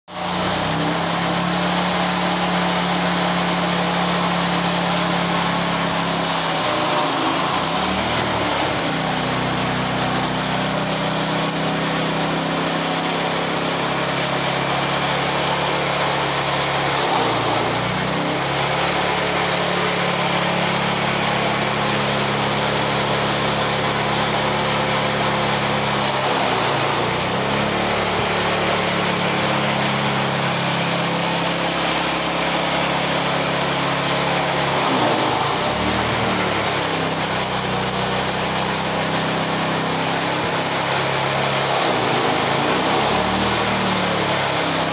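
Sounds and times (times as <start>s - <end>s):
chaff cutter engine running: 0.1s - 44.9s.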